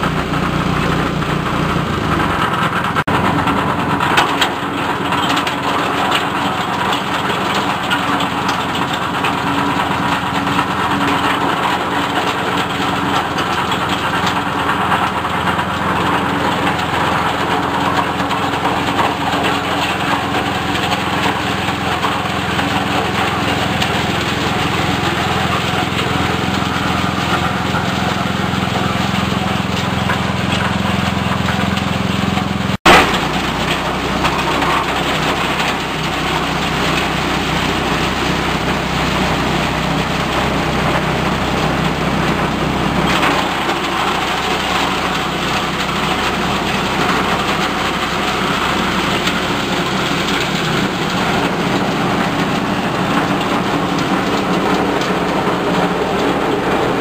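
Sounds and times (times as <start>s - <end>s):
compost shredder running: 0.0s - 57.0s.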